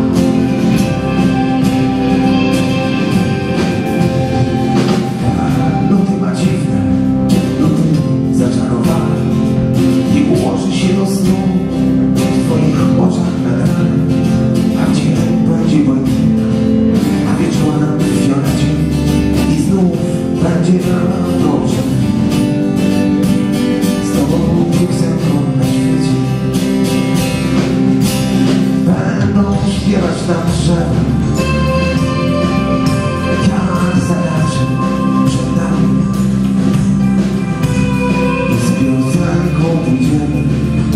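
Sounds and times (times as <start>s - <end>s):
electric and acoustic guitars: 0.0s - 40.9s
live band playing pop music: 0.0s - 40.9s.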